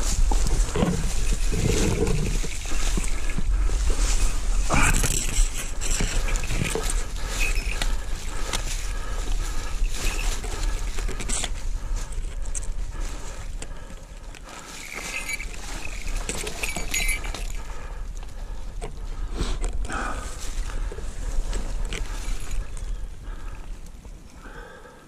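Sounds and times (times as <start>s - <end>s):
dry leaves crackling underfoot: 0.0s - 24.4s.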